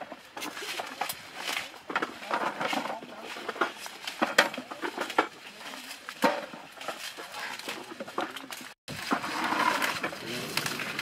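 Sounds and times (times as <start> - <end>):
rustling leaves and buckets: 0.0 - 11.0.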